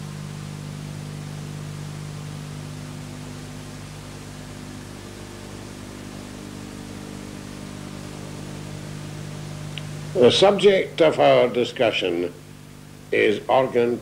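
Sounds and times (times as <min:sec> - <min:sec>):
low electrical hum: 0:00.0 - 0:14.0
steady tape hiss: 0:00.0 - 0:14.0.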